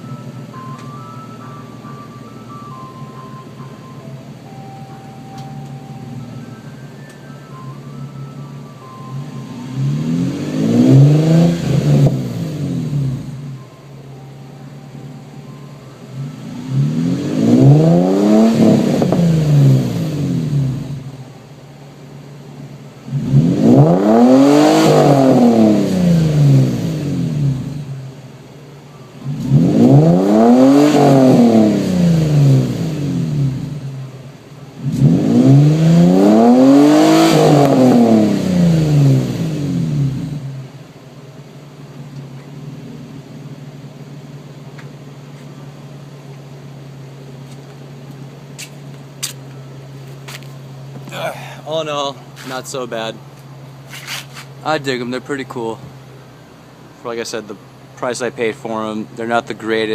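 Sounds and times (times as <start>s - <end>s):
car engine idling: 0.0s - 59.9s
car engine revving: 1.9s - 21.3s, 22.0s - 59.9s.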